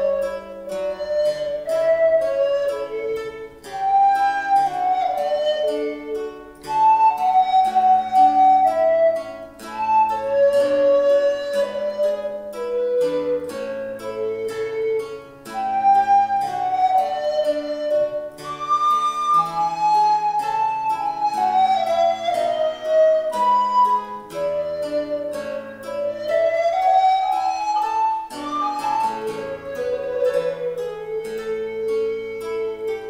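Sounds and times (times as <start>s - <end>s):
harpsichord accompaniment: 0.0s - 33.0s
recorder melody: 0.0s - 33.0s.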